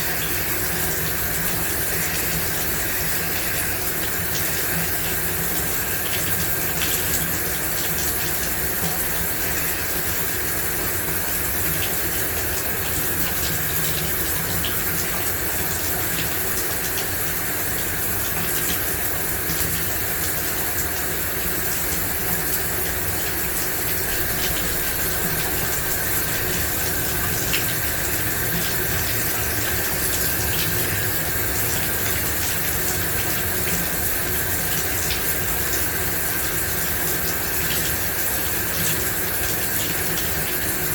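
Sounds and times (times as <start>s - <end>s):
shower water spraying: 0.0s - 40.9s.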